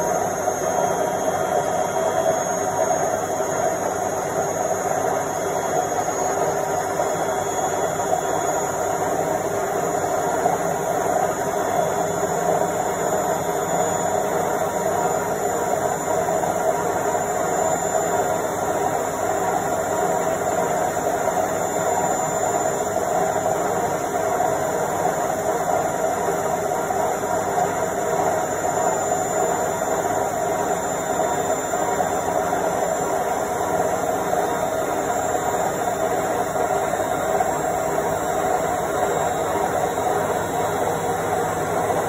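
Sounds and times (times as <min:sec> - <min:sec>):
washing machine spinning: 0:00.0 - 0:42.0.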